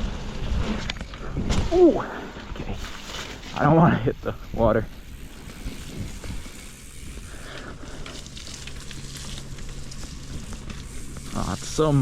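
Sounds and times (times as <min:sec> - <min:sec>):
bike rattling: 0:00.0 - 0:12.0
bike tyres crackling on mud: 0:00.0 - 0:12.0.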